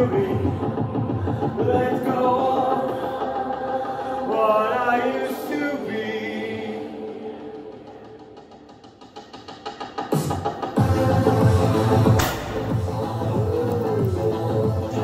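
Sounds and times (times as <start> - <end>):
choir-like voices singing: 0.0 - 9.2, 10.6 - 15.0.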